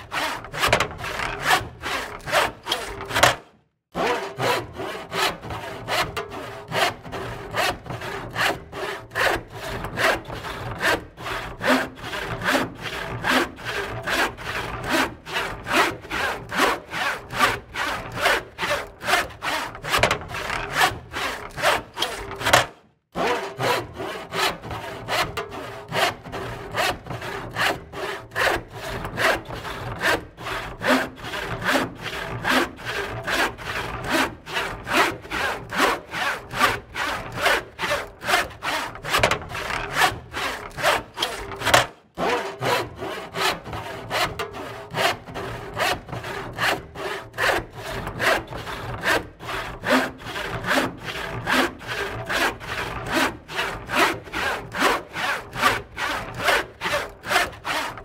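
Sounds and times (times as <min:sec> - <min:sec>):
hand saw cutting wood: 0:00.0 - 0:58.0.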